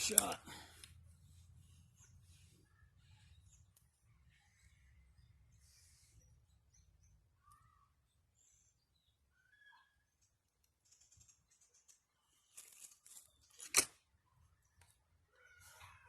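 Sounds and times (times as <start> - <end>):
faint bird chirps: 1.1 - 13.5, 14.2 - 16.0.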